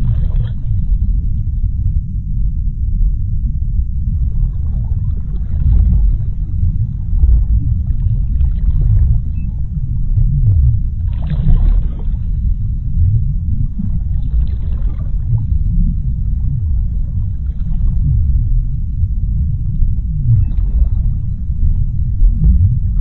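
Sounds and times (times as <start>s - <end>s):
underwater rumble: 0.0s - 23.0s.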